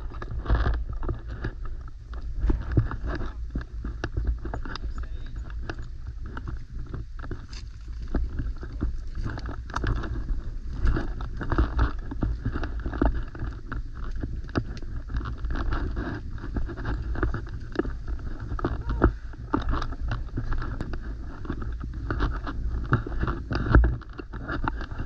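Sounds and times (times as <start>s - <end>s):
footsteps on a trail: 0.0s - 25.0s
wind rumble on microphone: 0.0s - 25.0s.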